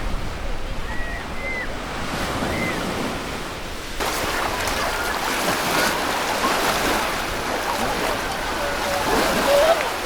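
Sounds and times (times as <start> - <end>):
ocean surf washing onto beach: 0.0 - 10.0.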